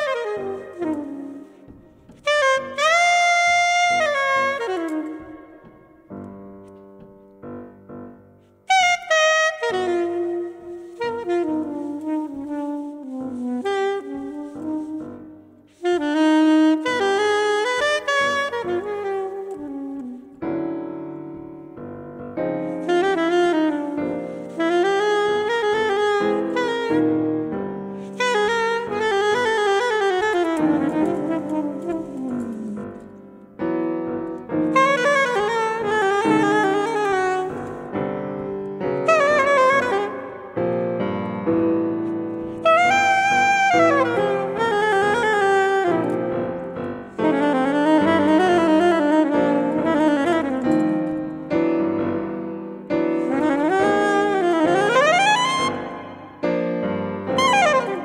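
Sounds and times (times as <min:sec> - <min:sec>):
grand piano playing jazz: 0:00.0 - 0:58.0
soprano saxophone playing jazz: 0:00.0 - 0:58.0.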